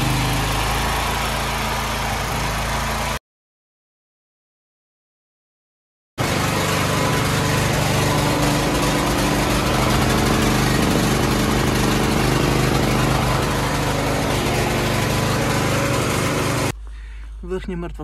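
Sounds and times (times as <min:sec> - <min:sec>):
generator engine running: 0:00.0 - 0:03.2, 0:06.2 - 0:18.0.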